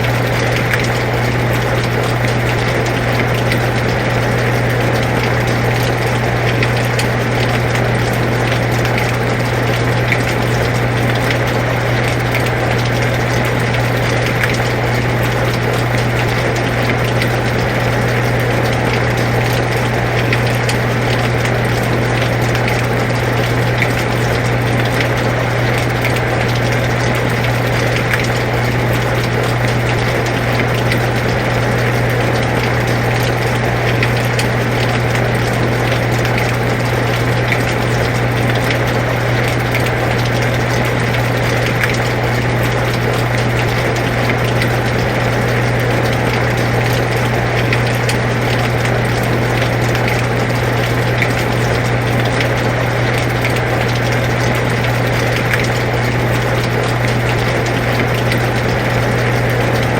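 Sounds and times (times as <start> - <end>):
air conditioner humming: 0.0 - 59.9
rain falling: 0.0 - 59.9
raindrops ticking: 0.0 - 59.9.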